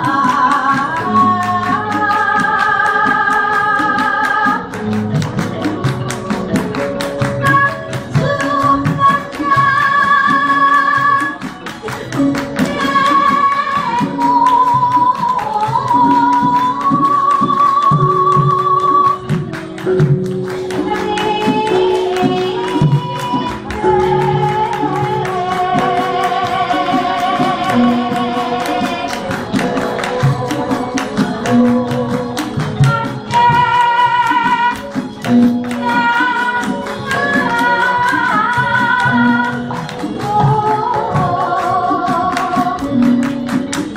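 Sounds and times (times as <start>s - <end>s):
woman singing long wavering notes: 0.0s - 11.5s, 12.1s - 43.5s
gamelan metallophones and gongs: 3.5s - 43.8s.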